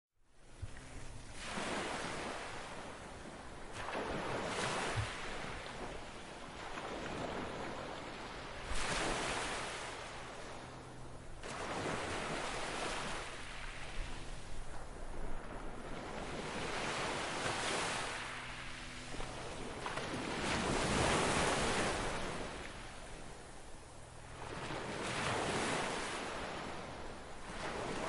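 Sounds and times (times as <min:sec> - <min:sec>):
ocean waves breaking: 0:00.4 - 0:28.0.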